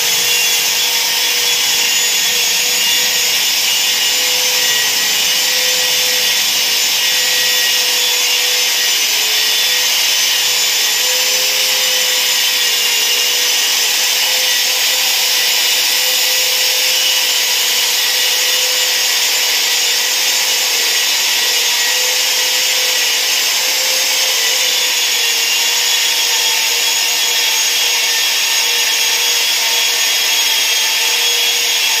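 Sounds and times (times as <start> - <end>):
electric polisher motor whine: 0.0 - 32.0.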